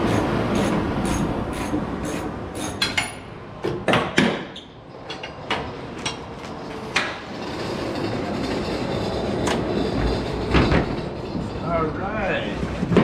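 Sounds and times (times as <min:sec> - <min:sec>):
low shop rumble: 0:00.0 - 0:13.0.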